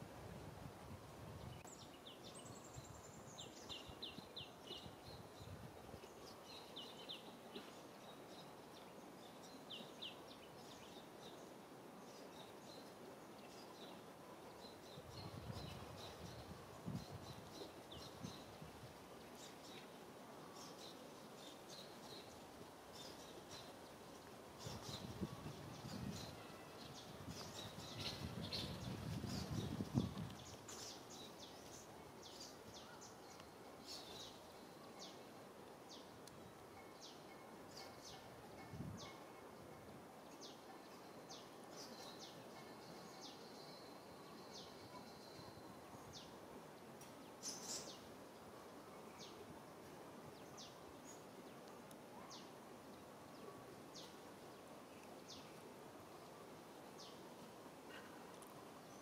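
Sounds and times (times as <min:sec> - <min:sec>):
small birds chirping: 0:01.4 - 0:46.4, 0:47.0 - 0:59.0.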